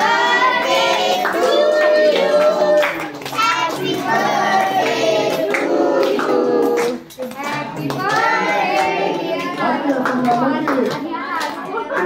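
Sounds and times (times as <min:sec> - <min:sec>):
children singing a celebration song: 0:00.0 - 0:12.0
hand-clapping: 0:01.1 - 0:12.0.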